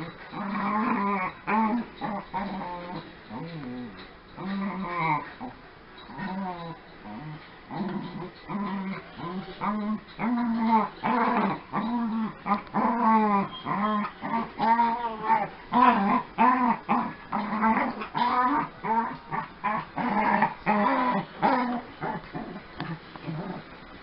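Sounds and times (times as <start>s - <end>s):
dogs growling and whining: 0.0s - 23.8s.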